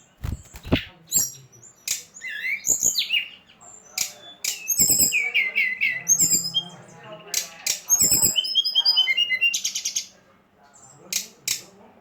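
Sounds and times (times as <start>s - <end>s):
songbird chirping and whistling: 0.0s - 10.1s.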